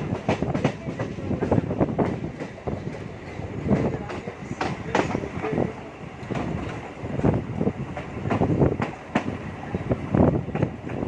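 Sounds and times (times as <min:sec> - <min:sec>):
train wheels clattering over rail joints: 0:00.0 - 0:09.4
train rumble: 0:00.0 - 0:11.0.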